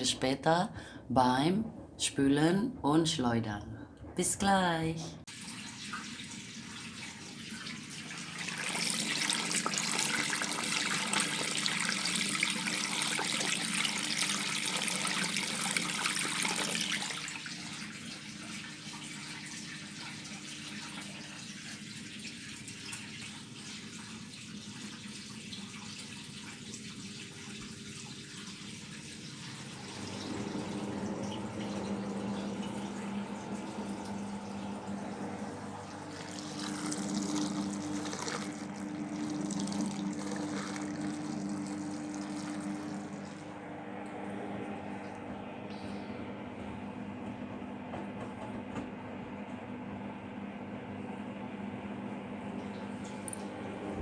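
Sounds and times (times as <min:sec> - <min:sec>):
washing machine humming: 0:00.0 - 0:54.0
water rushing into washing machine: 0:00.0 - 0:54.0.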